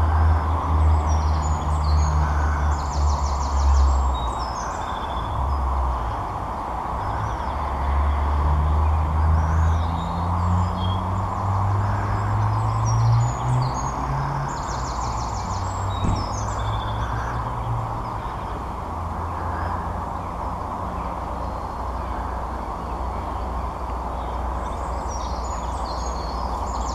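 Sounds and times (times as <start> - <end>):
low engine-like hum: 0.0 - 26.9.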